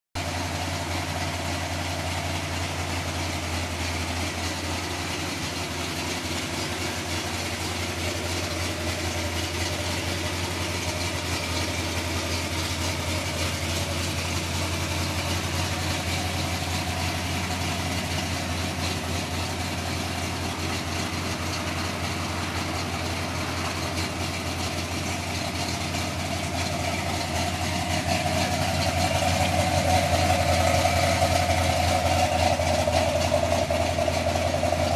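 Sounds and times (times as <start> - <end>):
pickup engine idling: 0.2 - 34.9.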